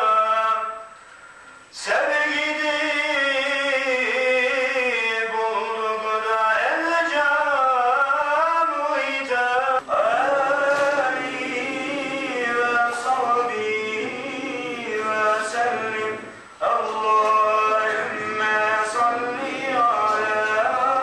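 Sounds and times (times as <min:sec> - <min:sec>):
man chanting: 0:00.0 - 0:00.9, 0:01.7 - 0:21.0.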